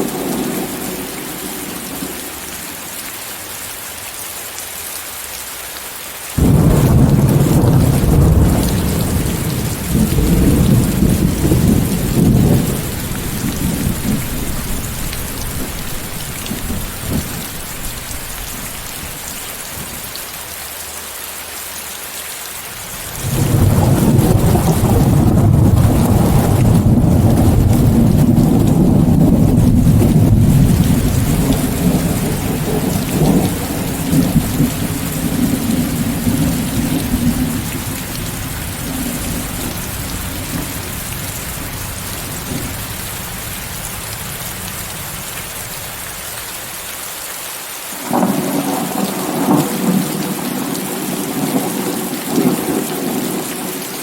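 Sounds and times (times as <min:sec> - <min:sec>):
rolling thunder: 0:00.0 - 0:02.8, 0:06.4 - 0:20.1, 0:23.1 - 0:45.9, 0:48.0 - 0:53.8
heavy rain: 0:00.0 - 0:54.0.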